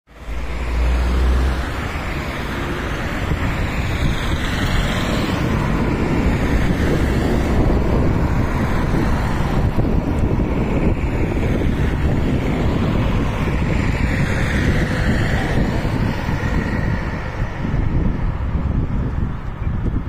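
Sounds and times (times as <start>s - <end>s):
cars passing: 0.1s - 20.0s
wind buffeting microphone: 0.1s - 20.0s.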